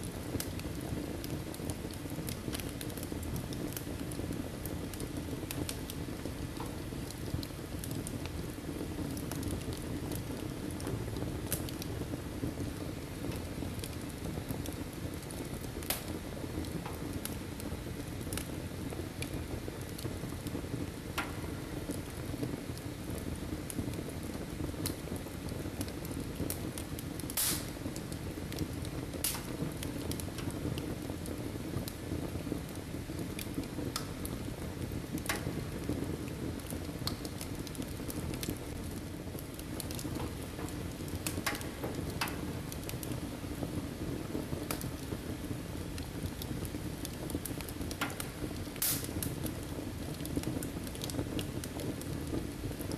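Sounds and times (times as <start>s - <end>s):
firewood crackling and popping: 0.0s - 52.9s
low rush of flame: 0.0s - 52.9s.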